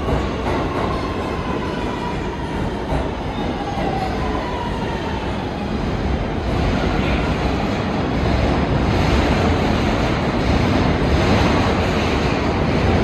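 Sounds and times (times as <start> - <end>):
subway train rumbling in: 0.0 - 13.0.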